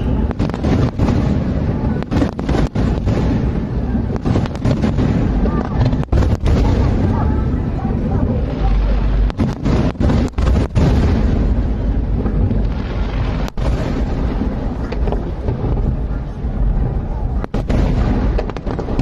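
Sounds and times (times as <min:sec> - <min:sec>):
aerial fireworks booming: 0:00.0 - 0:19.0.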